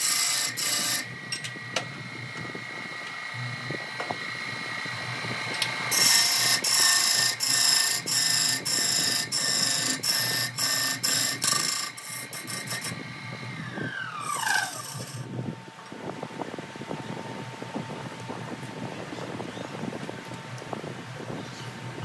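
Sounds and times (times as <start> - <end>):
wood lathe whine: 0.0 - 21.0.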